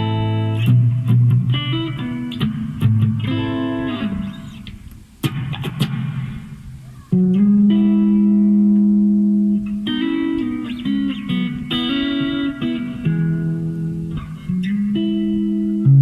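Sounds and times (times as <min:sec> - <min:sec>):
electric guitar clean tone: 0:00.0 - 0:16.0.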